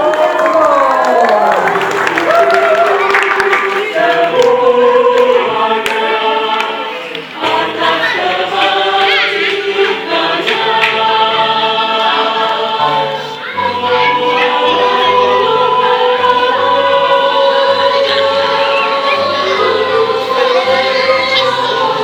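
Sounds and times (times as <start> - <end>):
church choir singing a hymn: 2.6 - 22.0.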